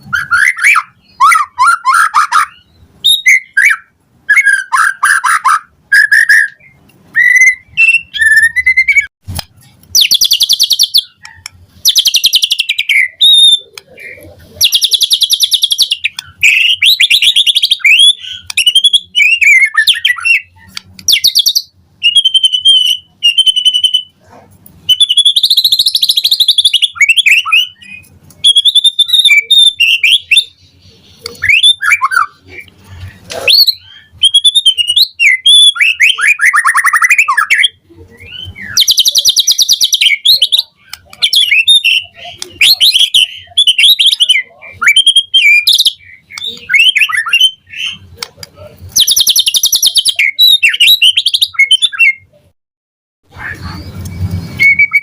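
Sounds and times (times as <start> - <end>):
bird singing trills and whistles: 0.0 - 52.4, 53.3 - 55.0.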